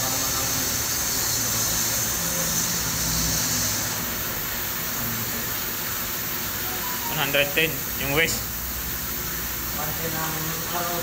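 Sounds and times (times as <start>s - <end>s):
pump hum: 0.0s - 11.0s.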